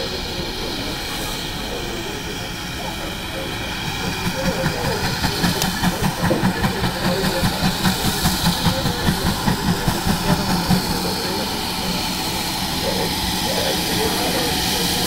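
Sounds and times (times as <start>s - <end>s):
steam locomotive exhaust beating: 0.0s - 15.0s.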